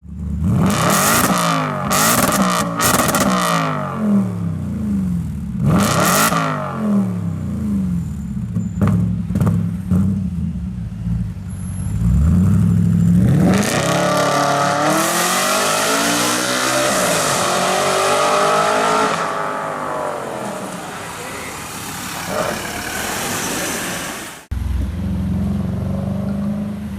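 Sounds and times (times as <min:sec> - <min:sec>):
car engine revving: 0:00.2 - 0:08.0, 0:11.9 - 0:26.9.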